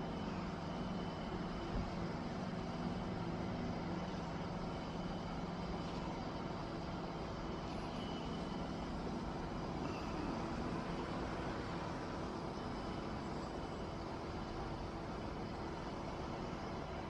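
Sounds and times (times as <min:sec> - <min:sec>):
crane engine humming: 0:00.0 - 0:17.0.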